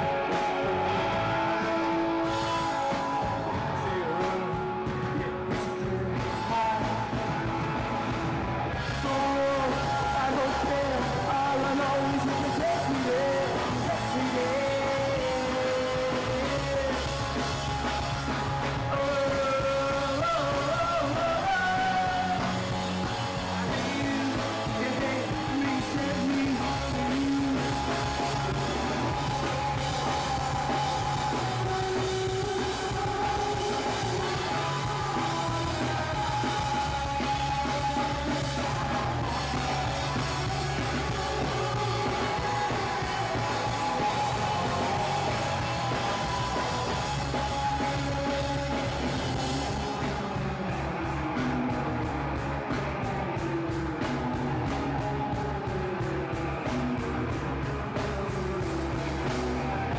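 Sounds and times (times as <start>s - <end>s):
man singing: 0.0s - 51.4s
drum kit: 0.0s - 59.9s
electric guitars: 0.0s - 59.9s.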